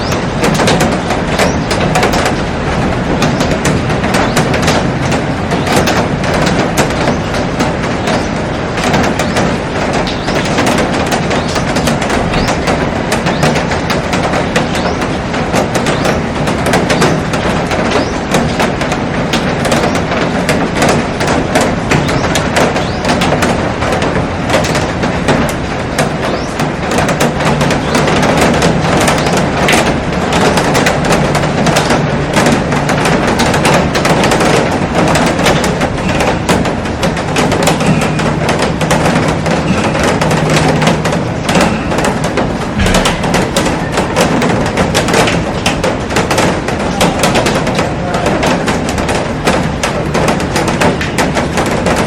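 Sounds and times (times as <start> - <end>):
heavy rain on a glass roof: 0.0 - 52.0.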